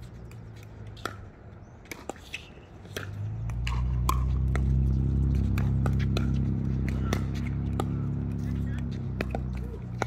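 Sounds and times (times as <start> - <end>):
paddles hitting plastic ball: 0.3 - 10.0.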